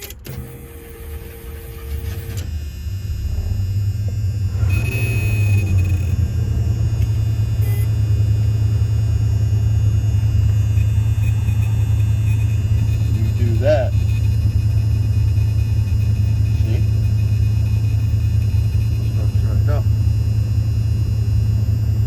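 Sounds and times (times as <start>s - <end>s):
car engine starting and idling: 0.0s - 22.0s.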